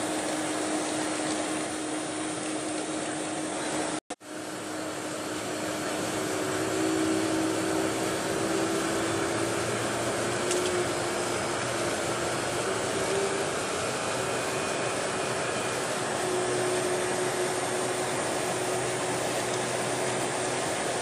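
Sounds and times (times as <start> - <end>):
air-conditioning hiss: 0.0 - 21.0
faint engine whine: 0.0 - 21.0
jet engines idling: 0.0 - 21.0.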